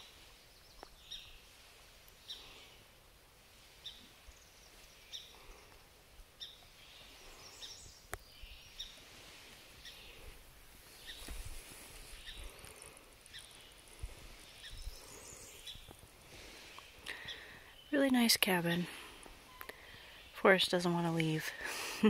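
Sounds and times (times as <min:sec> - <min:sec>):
bird chirping: 0:00.0 - 0:02.8, 0:03.7 - 0:05.8, 0:06.4 - 0:21.4.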